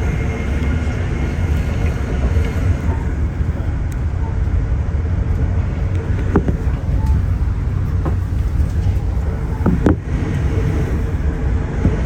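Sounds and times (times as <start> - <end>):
train wheels on rails rumbling: 0.0 - 12.0.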